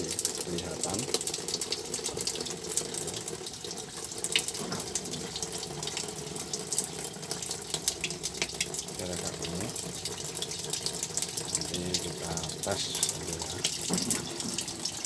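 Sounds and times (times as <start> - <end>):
water pouring into washing machine tub: 0.0 - 15.0.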